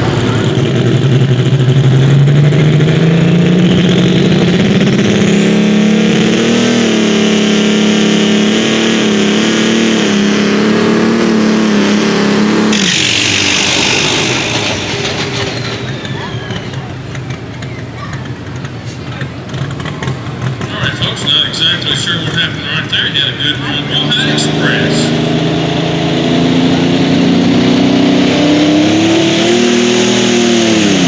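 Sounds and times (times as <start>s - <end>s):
high turbo whine: 0.0s - 17.7s, 18.6s - 31.0s
diesel engine at full throttle: 0.0s - 31.0s.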